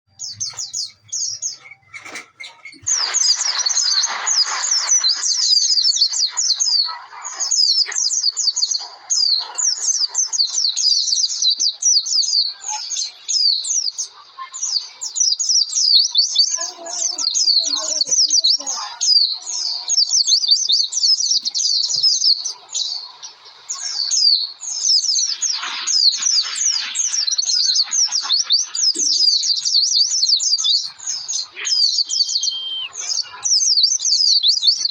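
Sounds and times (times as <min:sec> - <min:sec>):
bird twittering song: 0:00.1 - 0:34.9.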